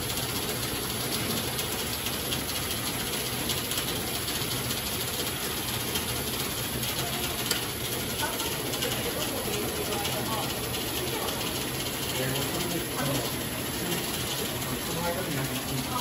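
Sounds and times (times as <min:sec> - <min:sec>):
faint rapid ticking: 0:00.0 - 0:16.0
reeling machine running: 0:00.0 - 0:16.0.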